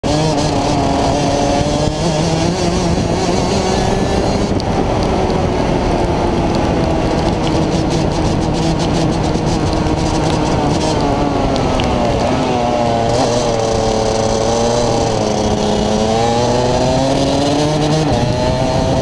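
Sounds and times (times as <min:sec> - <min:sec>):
kart engine racing: 0:00.0 - 0:19.0
wind and spray rushing: 0:00.1 - 0:19.0.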